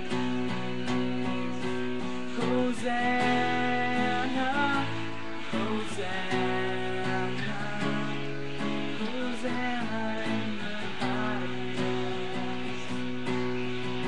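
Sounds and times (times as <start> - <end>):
acoustic guitar strumming chords: 0.0 - 14.0
man singing: 0.0 - 14.0.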